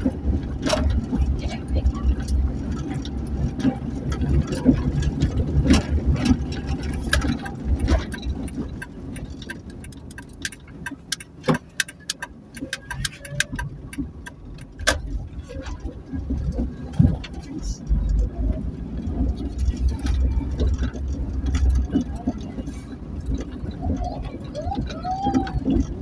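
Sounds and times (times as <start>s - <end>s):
engine and road rumble: 0.0s - 26.0s
light clicks and rattles: 0.0s - 26.0s.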